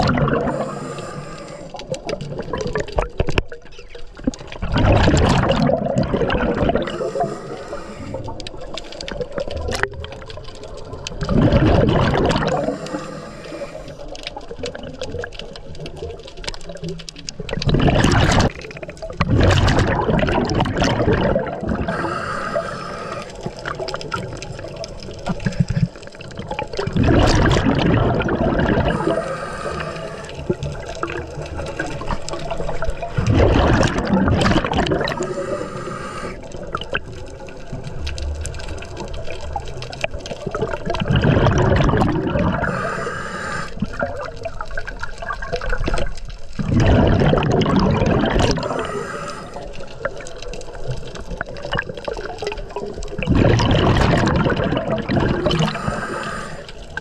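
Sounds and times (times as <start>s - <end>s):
exhaled bubbles rushing: 0.0s - 57.0s.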